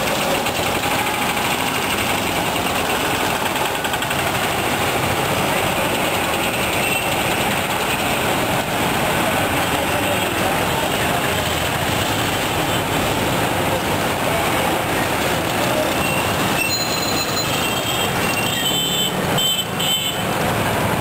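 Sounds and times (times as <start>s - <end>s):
traffic engine din: 0.0s - 21.0s.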